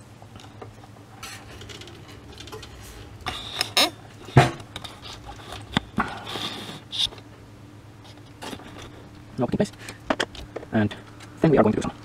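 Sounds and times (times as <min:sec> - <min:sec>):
rustling and clicking parts: 0:00.3 - 0:07.3, 0:08.0 - 0:11.4.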